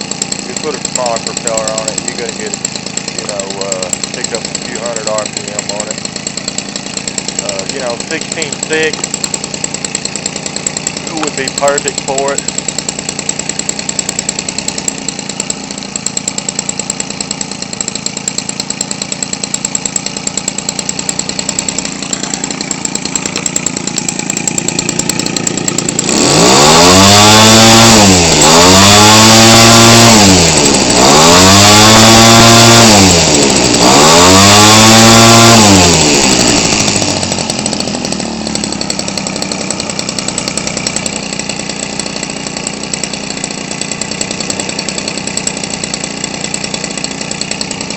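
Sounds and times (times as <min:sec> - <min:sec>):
propeller turning: 0:00.0 - 0:47.9
small two-stroke engine revving: 0:00.0 - 0:47.9.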